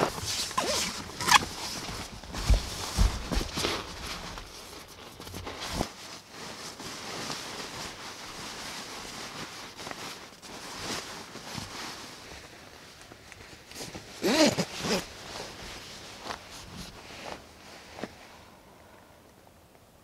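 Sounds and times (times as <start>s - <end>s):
sleeping bag fabric rustling: 0.0s - 18.4s.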